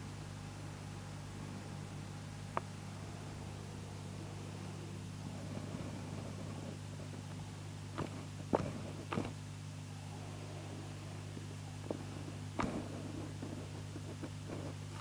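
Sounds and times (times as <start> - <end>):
turntable electrical hum: 0.0 - 15.0.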